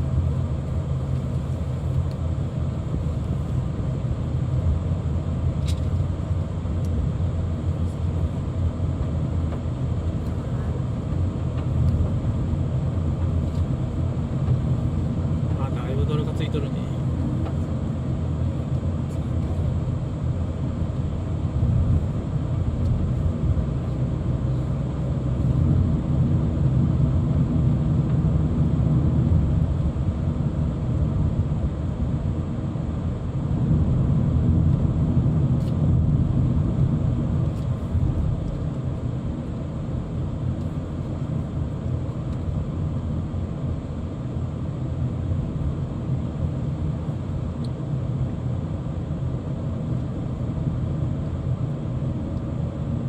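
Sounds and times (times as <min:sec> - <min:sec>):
car engine rumble: 0:00.0 - 0:53.0
road noise: 0:00.0 - 0:53.0.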